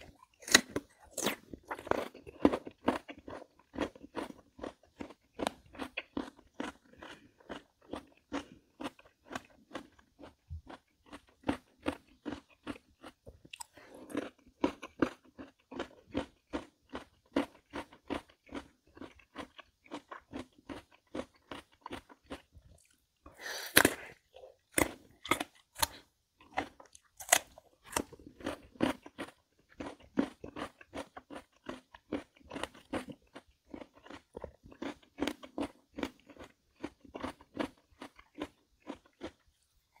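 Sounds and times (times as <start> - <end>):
crunchy chewing: 0.0 - 40.0.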